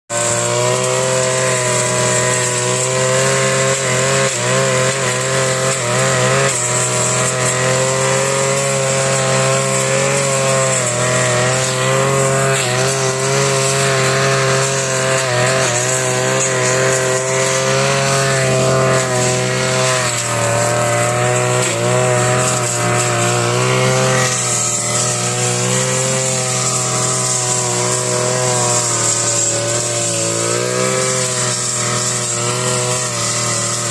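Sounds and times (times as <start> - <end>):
lawn mower engine running: 0.1 - 33.9.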